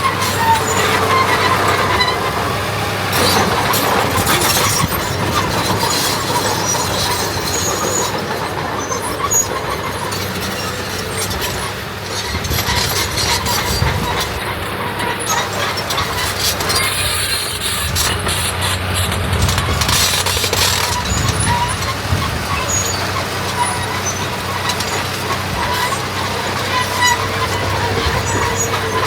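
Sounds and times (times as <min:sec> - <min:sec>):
earthmoving machinery engine drone: 0:00.0 - 0:29.0.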